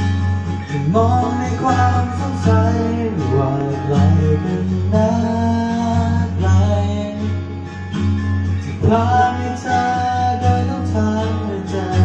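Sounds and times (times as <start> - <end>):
pop music with guitar: 0.0 - 12.0.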